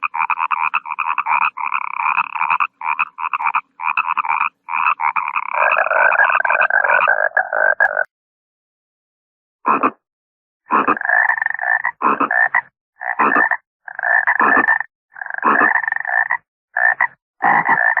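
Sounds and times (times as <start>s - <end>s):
frog croaking: 0.0s - 8.1s, 9.7s - 10.0s, 10.7s - 18.0s.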